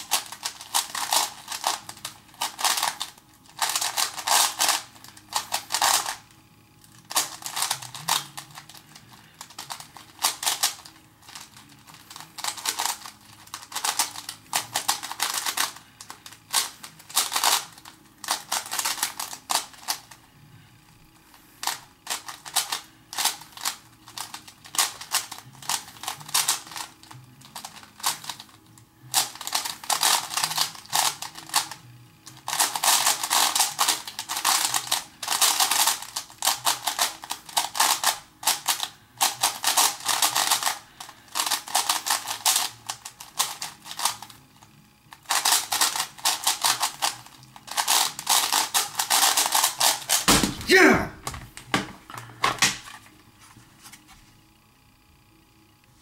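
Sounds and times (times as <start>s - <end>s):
speed cube plastic turns clicking: 0.0s - 6.2s, 6.9s - 20.2s, 21.6s - 44.4s, 45.1s - 50.3s.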